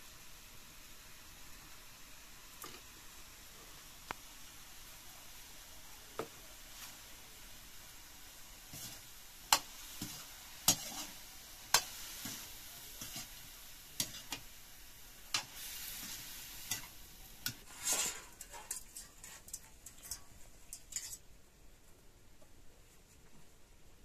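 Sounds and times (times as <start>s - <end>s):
food sizzling: 0.0s - 21.4s.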